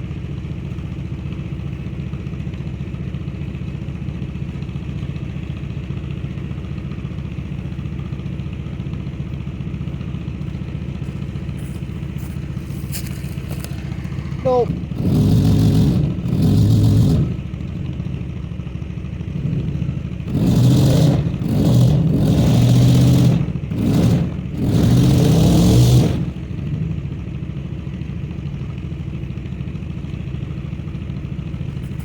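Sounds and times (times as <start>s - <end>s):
car engine revving and idling: 0.0s - 32.0s.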